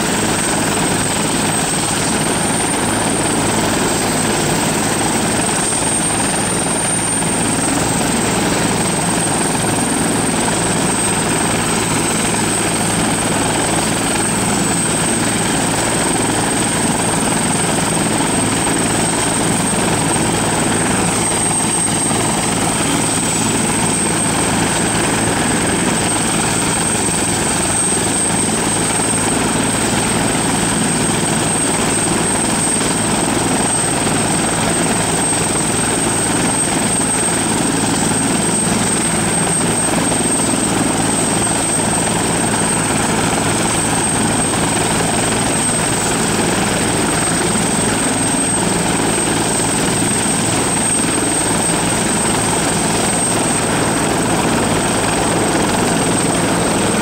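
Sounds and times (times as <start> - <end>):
helicopter rotor and engine noise: 0.0 - 57.0
helicopter turbine whine: 0.0 - 57.0.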